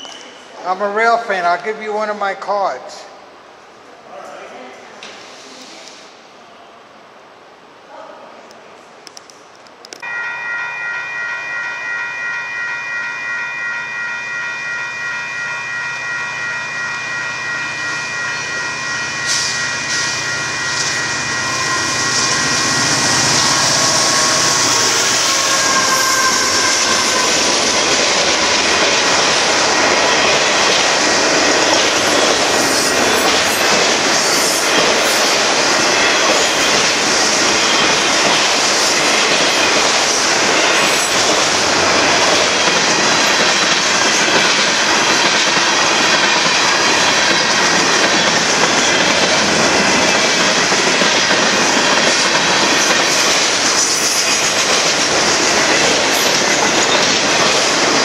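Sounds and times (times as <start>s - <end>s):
crossing warning bell ringing: 10.0s - 58.0s
steel wheels rushing on rail: 10.0s - 58.0s.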